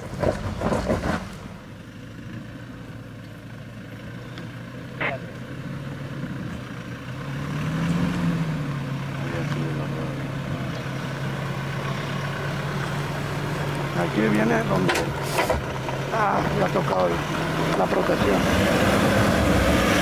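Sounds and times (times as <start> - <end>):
pickup engine running at low revs: 0.0 - 20.0.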